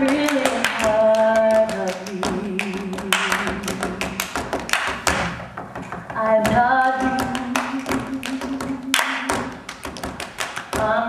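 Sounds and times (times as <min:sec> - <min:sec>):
tap shoes tapping on stage: 0:00.0 - 0:11.0.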